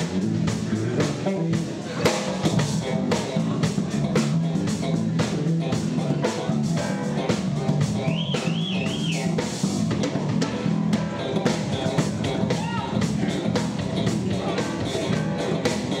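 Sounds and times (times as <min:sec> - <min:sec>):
drum kit beat: 0:00.0 - 0:16.0
electric bass line: 0:00.0 - 0:16.0.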